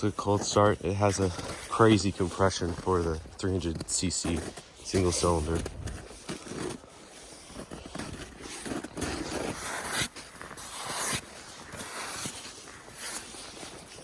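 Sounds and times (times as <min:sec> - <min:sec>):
handling rustling and scraping: 0:00.0 - 0:14.0.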